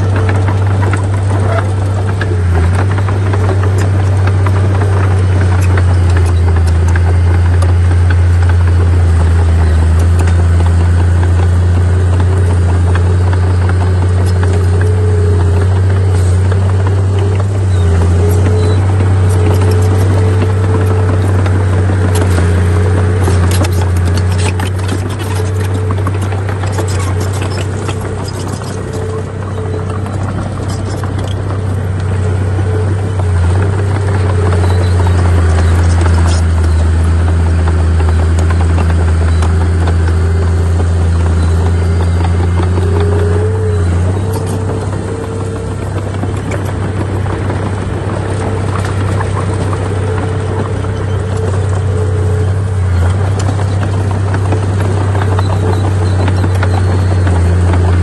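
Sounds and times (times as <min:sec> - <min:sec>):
diesel machinery engine hum: 0:00.0 - 0:58.0
rattling and clicking: 0:00.0 - 0:58.0.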